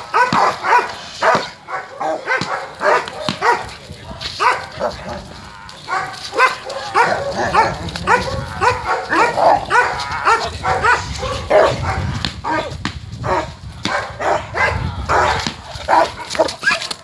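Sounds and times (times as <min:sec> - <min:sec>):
dogs barking aggressively: 0:00.0 - 0:17.0.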